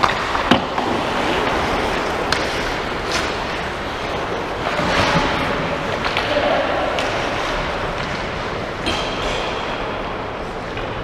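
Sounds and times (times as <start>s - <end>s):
hockey sticks and puck clacking: 0.0s - 11.0s
indoor hall noise: 0.0s - 11.0s.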